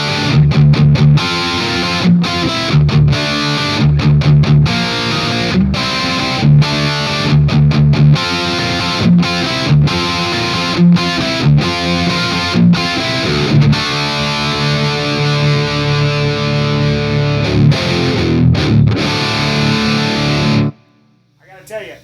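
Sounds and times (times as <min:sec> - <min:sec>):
distorted electric guitar chords: 0:00.0 - 0:20.7.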